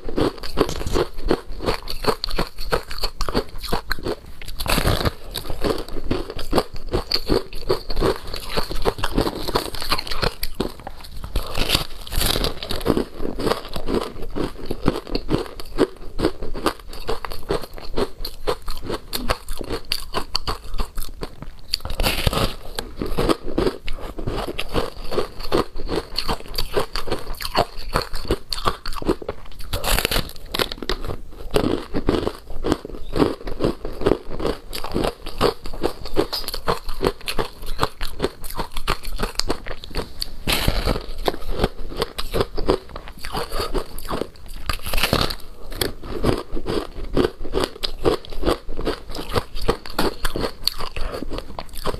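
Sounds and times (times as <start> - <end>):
crunching and chewing ice: 0.0 - 51.9.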